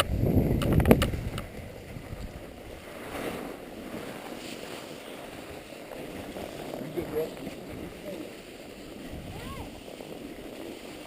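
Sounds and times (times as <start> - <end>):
skis scraping over snow: 0.0 - 11.0
wind on microphone: 0.0 - 11.0.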